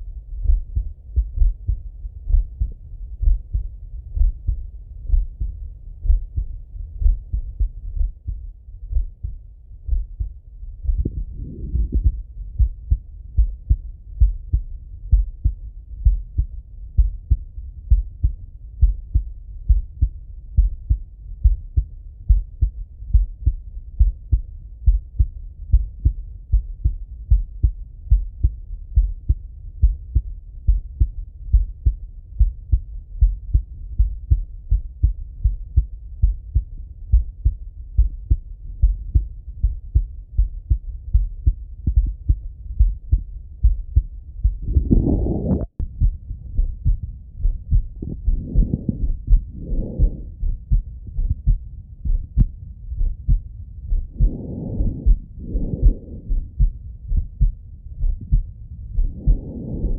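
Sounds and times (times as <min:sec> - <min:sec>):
heartbeat through stethoscope: 0:00.0 - 0:59.9.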